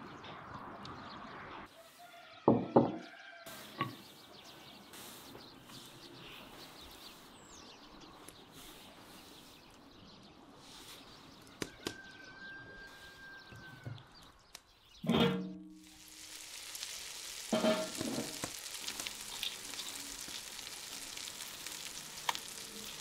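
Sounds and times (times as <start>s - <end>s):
birds chirping: 2.3s - 15.5s, 16.6s - 23.0s.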